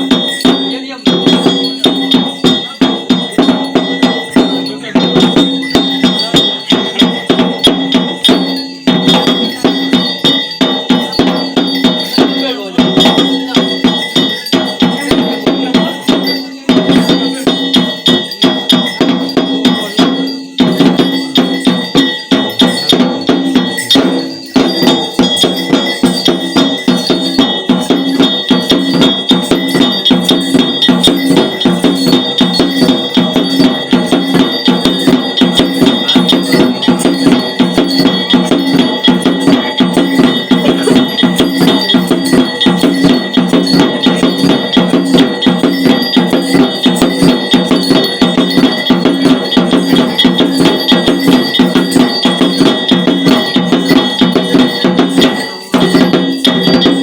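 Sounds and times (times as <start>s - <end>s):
drums beaten in fast rhythm: 0.0s - 57.0s
metal bells ringing: 0.0s - 57.0s.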